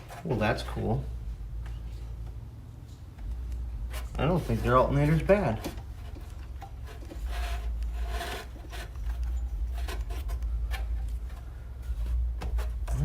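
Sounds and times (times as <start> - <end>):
parts rubbing and scraping: 0.0 - 13.0
steady low hum: 0.0 - 13.0.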